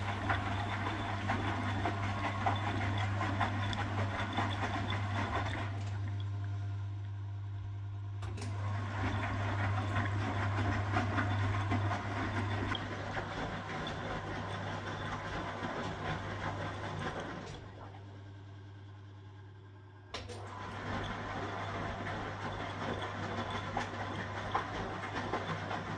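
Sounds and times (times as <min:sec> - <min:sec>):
washing machine churning: 0:00.0 - 0:18.8, 0:20.2 - 0:25.9
washing machine motor hum: 0:00.0 - 0:25.9.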